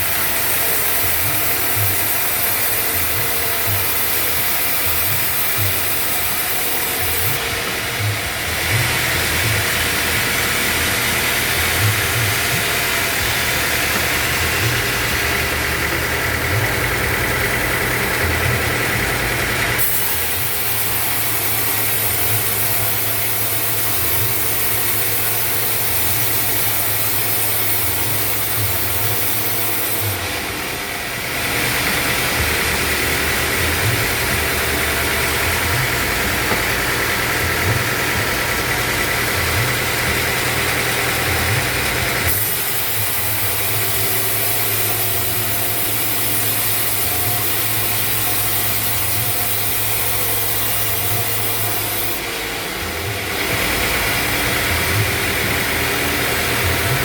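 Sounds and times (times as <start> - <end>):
saw blade hissing whine: 0.0 - 57.0
sawmill motor drone: 0.0 - 57.0.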